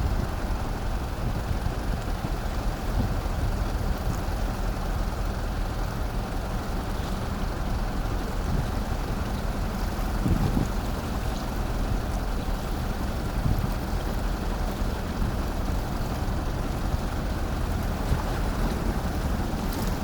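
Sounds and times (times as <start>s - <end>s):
ferry engine rumble: 0.0s - 20.0s
wind: 0.0s - 20.0s
water noise: 2.4s - 20.0s.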